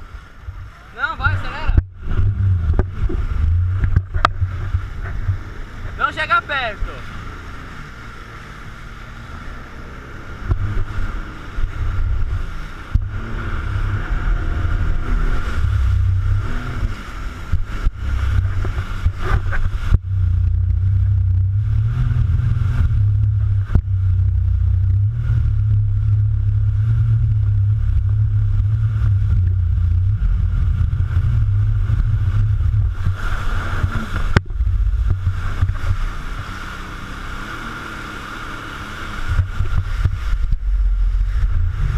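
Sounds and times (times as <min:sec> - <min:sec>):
jet ski engine whine: 0:00.0 - 0:41.9
wind rumble on microphone: 0:00.0 - 0:41.9.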